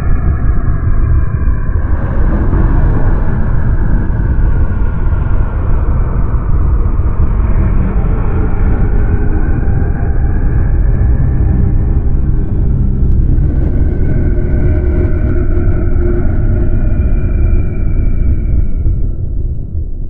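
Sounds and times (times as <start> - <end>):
deep monster rumble: 0.0 - 20.0.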